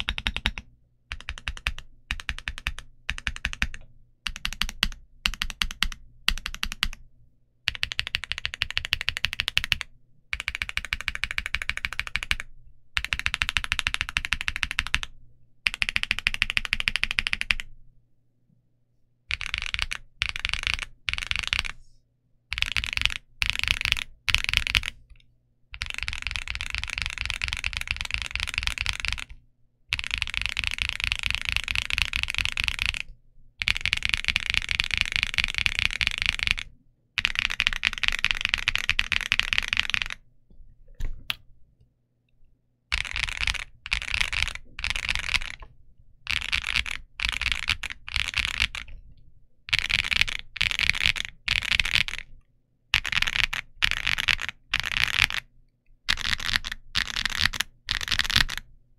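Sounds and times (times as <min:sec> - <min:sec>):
mechanical keyboard typing: 0:00.0 - 0:07.0, 0:07.7 - 0:17.7, 0:19.3 - 0:21.8, 0:22.5 - 0:25.0, 0:25.8 - 0:40.2, 0:42.9 - 0:45.7, 0:46.3 - 0:49.0, 0:49.7 - 0:52.3, 0:53.0 - 0:55.5, 0:56.1 - 0:58.7.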